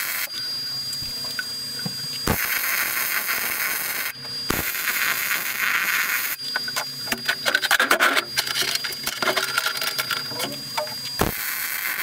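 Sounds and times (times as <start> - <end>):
welder arc crackling and hissing: 0.0 - 12.0.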